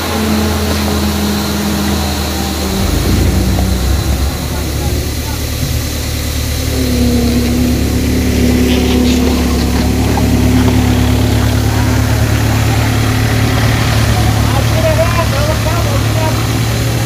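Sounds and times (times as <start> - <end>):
skid-steer loader engine rumbling: 0.0 - 17.0.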